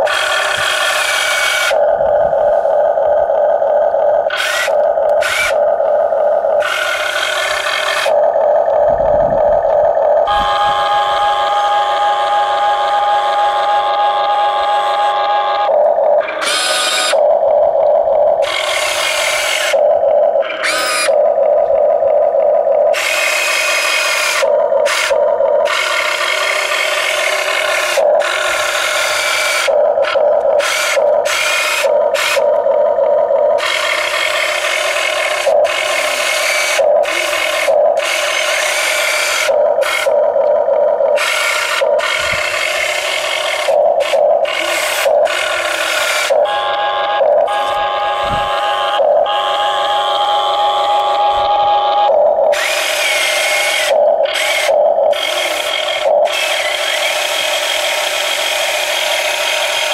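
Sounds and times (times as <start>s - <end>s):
electric motors and gearboxes whirring: 0.0s - 59.9s
steady drone: 0.0s - 59.9s.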